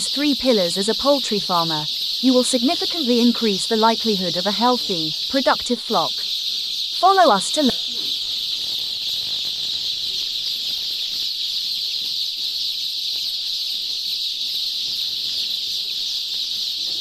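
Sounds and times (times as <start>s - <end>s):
high-pitched chirping chorus: 0.0s - 17.0s.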